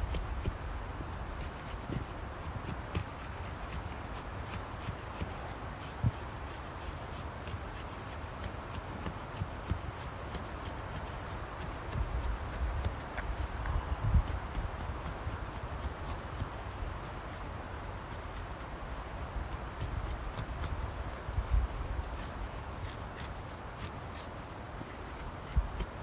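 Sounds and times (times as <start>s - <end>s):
low wind rumble on microphone: 0.0s - 7.6s, 10.7s - 26.0s
knife scraping wood: 0.0s - 26.0s.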